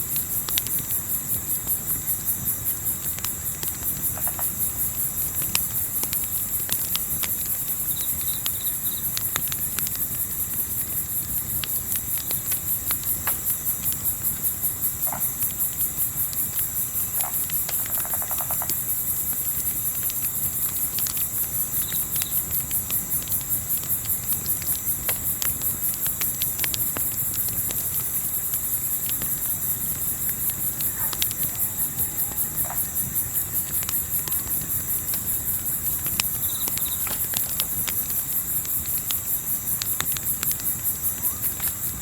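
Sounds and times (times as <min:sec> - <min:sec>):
campfire crackling and popping: 0:00.0 - 0:42.0
crickets chirping: 0:00.0 - 0:42.0.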